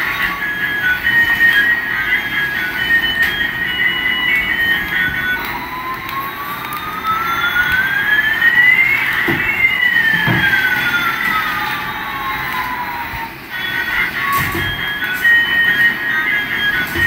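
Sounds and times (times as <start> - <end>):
electronic siren tones gliding: 0.0 - 17.0.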